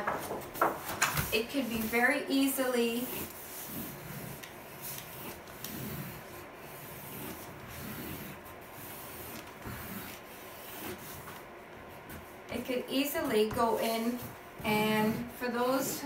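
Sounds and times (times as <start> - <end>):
pencil sketching on paper: 1.2 - 16.0.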